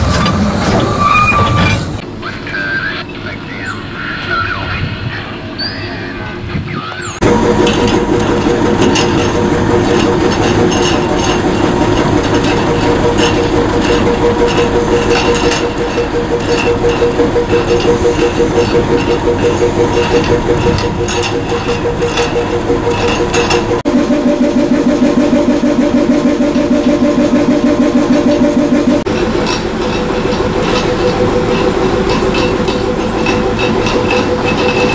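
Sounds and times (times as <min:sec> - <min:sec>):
diesel locomotive idling: 0:00.0 - 0:34.9.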